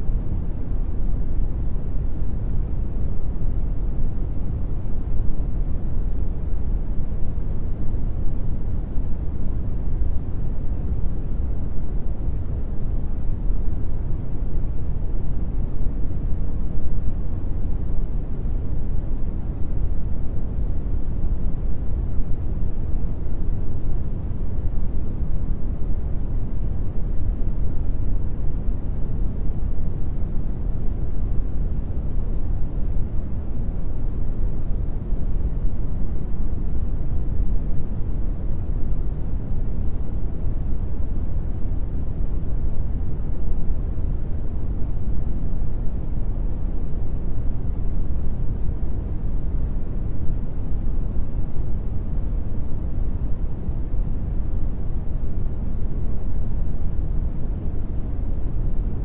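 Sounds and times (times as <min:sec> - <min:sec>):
brown noise rumble: 0:00.0 - 0:59.0.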